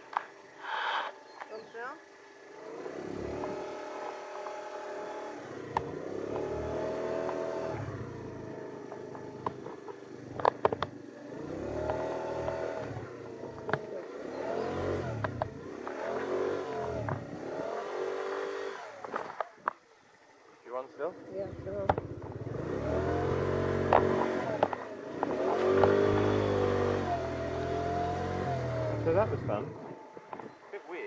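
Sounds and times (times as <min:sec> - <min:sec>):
scooter engine revving: 0:00.0 - 0:31.0.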